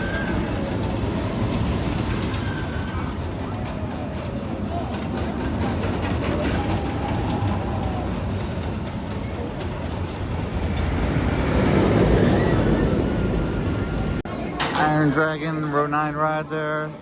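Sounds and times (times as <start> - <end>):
roller coaster rattling on track: 0.0 - 17.0.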